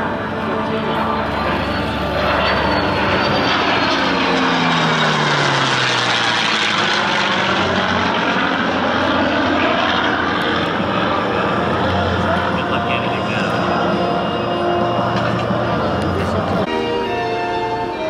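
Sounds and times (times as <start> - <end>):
jet engine flying past: 0.0 - 16.7
propeller plane engine flying past: 0.0 - 18.0.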